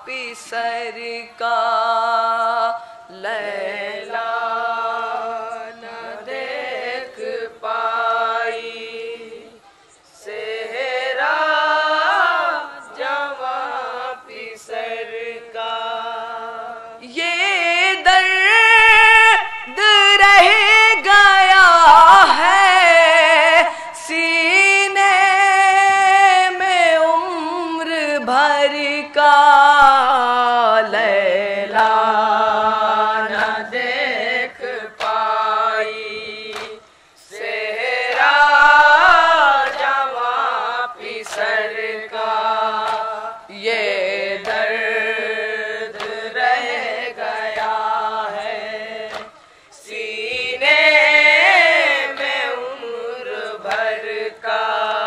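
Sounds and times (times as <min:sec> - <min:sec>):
boys chanting a lament: 0:00.0 - 0:55.0.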